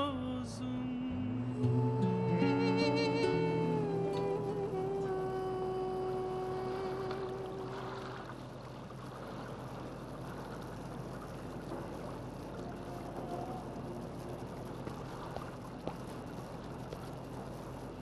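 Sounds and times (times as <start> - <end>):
low hum: 0.0 - 18.0
water lapping at shoreline: 0.0 - 18.0.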